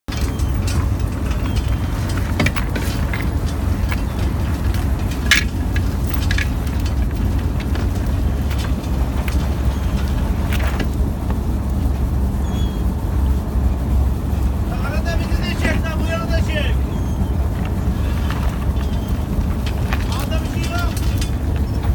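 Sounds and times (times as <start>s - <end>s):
boat engine low rumble: 0.1s - 21.9s.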